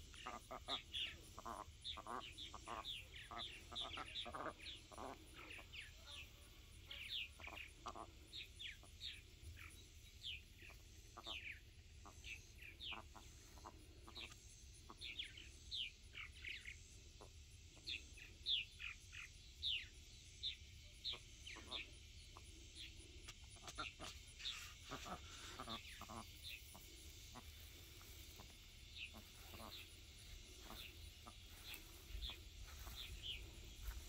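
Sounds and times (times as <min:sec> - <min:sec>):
birds chirping: 0:00.0 - 0:34.0
insects pulsing: 0:00.0 - 0:34.0
lower bird calls: 0:00.0 - 0:34.0.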